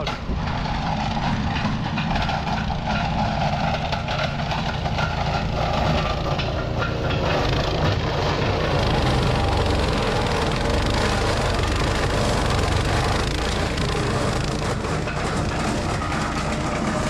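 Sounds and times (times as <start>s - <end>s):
wood chipper chipping wood: 0.0s - 17.0s.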